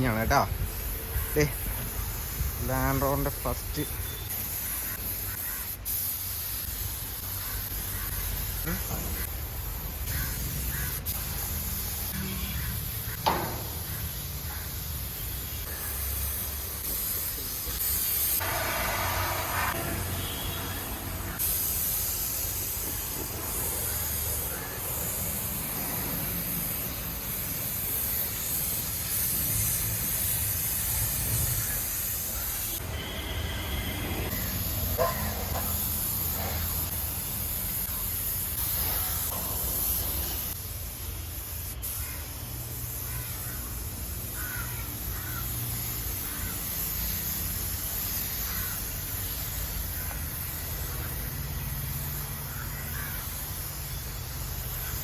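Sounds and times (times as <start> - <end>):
spray paint hiss: 0.0 - 55.0.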